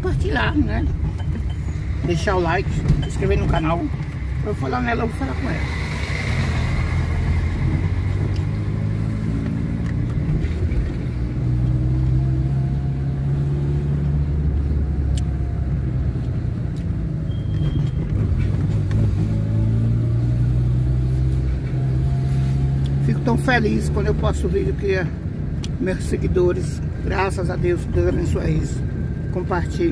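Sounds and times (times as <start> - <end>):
car engine accelerating: 0.0 - 29.9
road noise inside car: 0.0 - 29.9.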